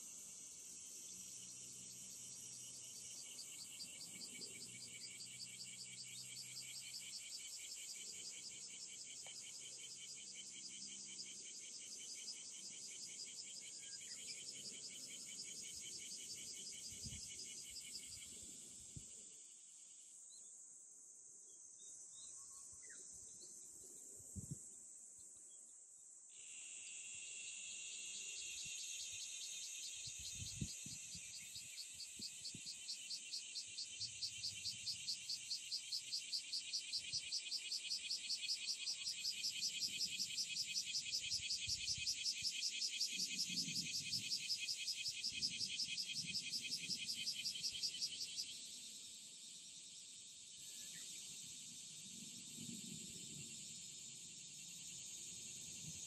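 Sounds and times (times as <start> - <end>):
cicadas singing: 0.0 - 20.4, 26.3 - 56.0
high insect hiss: 0.0 - 56.0.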